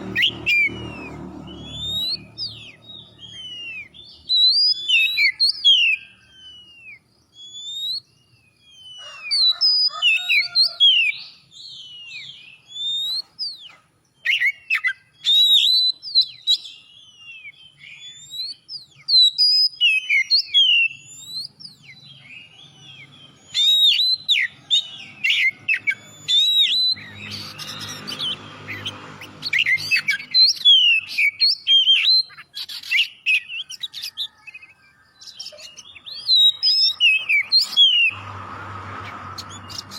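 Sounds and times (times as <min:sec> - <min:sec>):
bird singing whistled song: 0:00.0 - 0:38.2.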